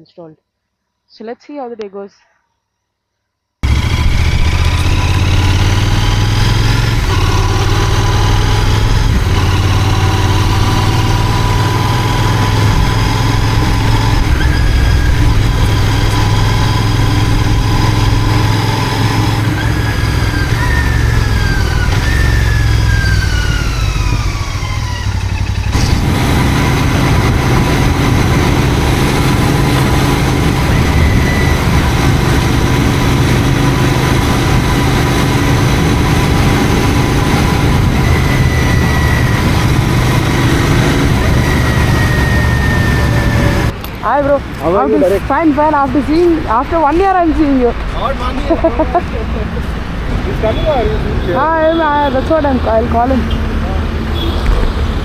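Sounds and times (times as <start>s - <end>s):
motorcycle engine running: 3.6s - 47.9s.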